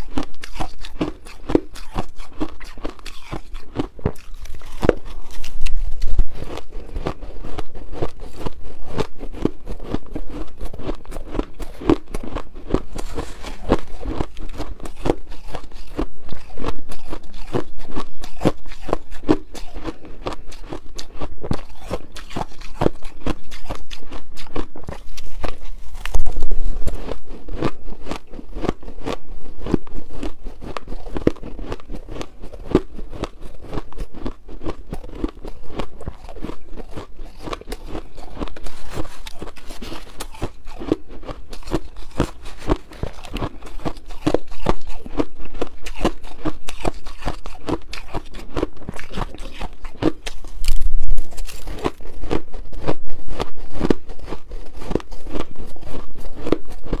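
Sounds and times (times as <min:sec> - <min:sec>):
person chewing crunchy ice: 0:00.0 - 0:57.0.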